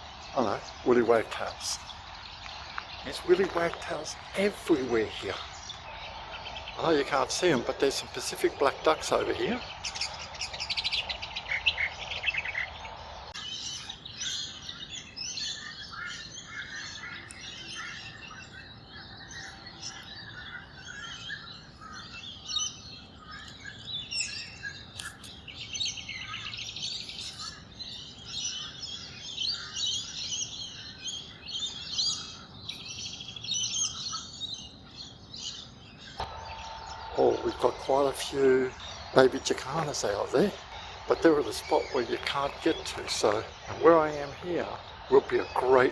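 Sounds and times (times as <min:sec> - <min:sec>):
small birds chirping and trilling: 0:00.0 - 0:45.9.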